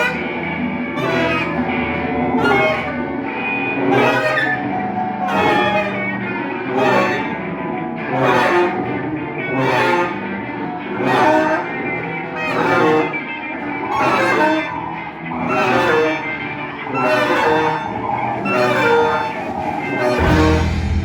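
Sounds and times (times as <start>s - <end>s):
ensemble playing sustained tones: 0.0s - 21.0s.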